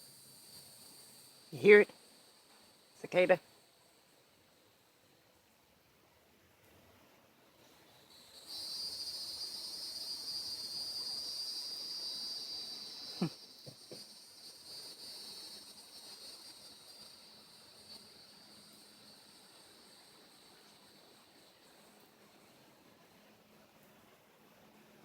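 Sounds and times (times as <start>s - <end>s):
cicada buzzing: 0.0s - 5.2s, 7.7s - 22.8s.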